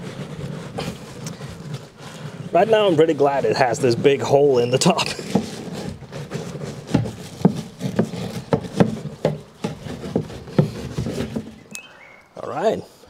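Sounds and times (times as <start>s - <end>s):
brush scrubbing plastic tank: 0.0s - 11.8s.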